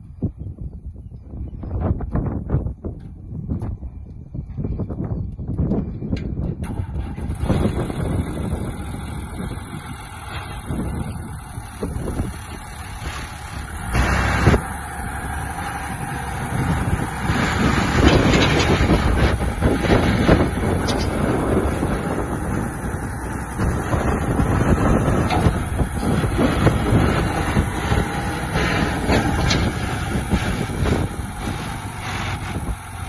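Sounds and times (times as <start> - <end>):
tractor diesel engine running: 1.8 - 33.0.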